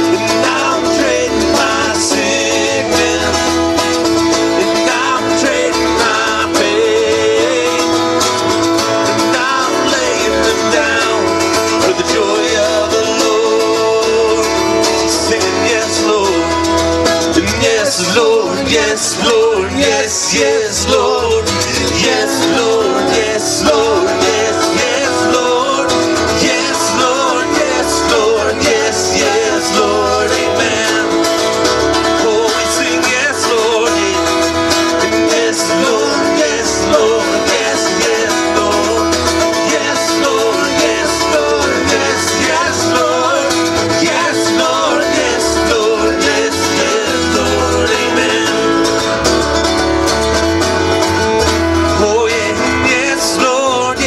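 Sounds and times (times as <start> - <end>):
bass line: 0.0 - 54.0
country gospel band playing: 0.0 - 54.0
strummed acoustic guitars: 0.0 - 54.0.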